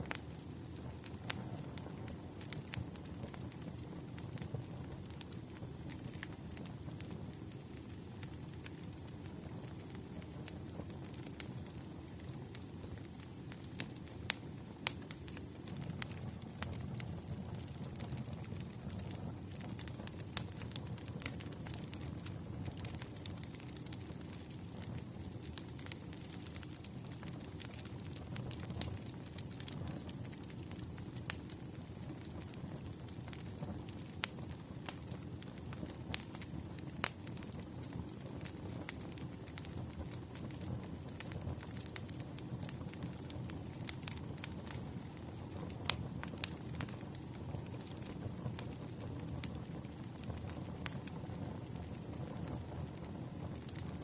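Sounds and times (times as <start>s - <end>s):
low rumble of burning logs: 0.0s - 54.0s
wood fire crackling: 0.0s - 54.0s.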